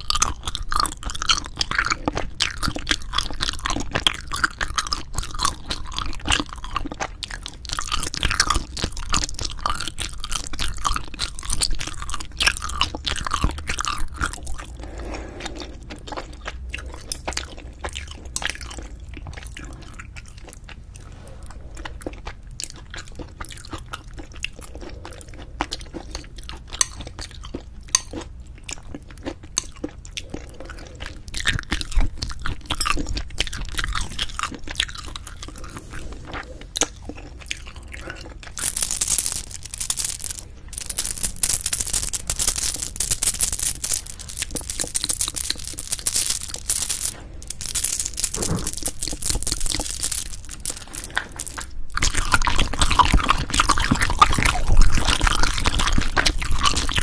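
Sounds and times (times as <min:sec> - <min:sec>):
close chewing mouth noises: 0:00.0 - 0:57.0.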